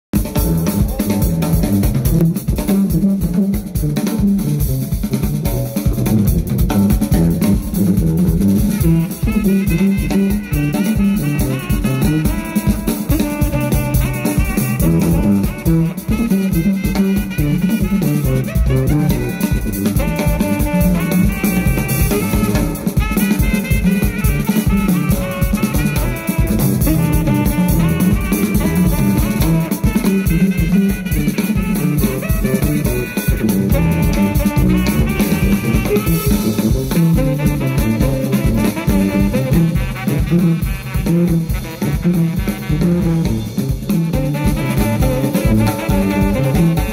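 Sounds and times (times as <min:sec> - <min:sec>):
drum kit groove: 0:00.0 - 0:46.9
jazz band playing: 0:00.1 - 0:46.9
saxophone melody: 0:00.2 - 0:46.9
tuba bass line: 0:00.2 - 0:46.9.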